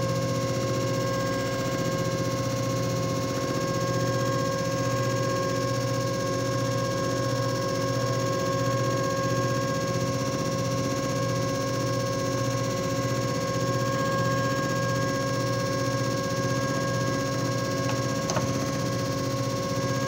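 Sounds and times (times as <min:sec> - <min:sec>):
machine motor hum with whine: 0:00.0 - 0:20.0.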